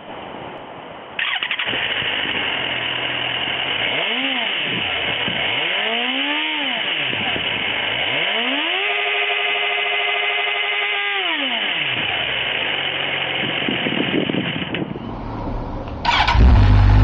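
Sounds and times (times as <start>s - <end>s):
motorcycle engine revving: 1.2s - 17.0s.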